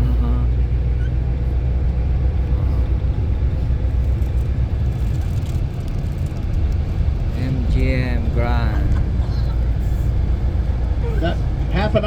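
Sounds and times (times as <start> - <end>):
engine and road noise inside vehicle: 0.0 - 12.0.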